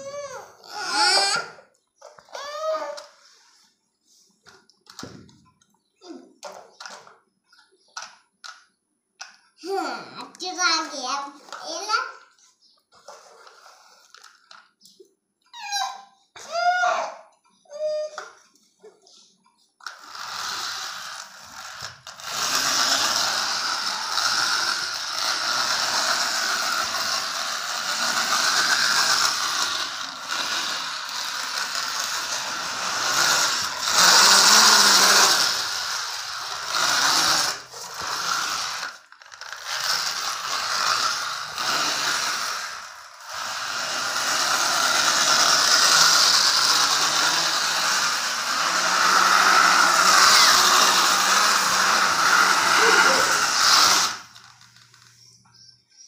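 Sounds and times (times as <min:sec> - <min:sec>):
toy tractor rattling on concrete: 0:00.0 - 0:03.4, 0:06.4 - 0:09.5, 0:10.3 - 0:12.4, 0:13.0 - 0:16.0, 0:17.7 - 0:56.0.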